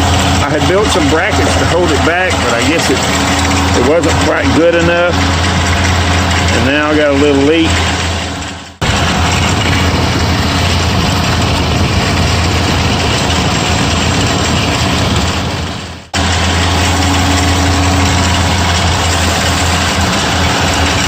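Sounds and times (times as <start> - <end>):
steady rushing noise: 0.0 - 21.0
truck engine idling: 0.0 - 21.0.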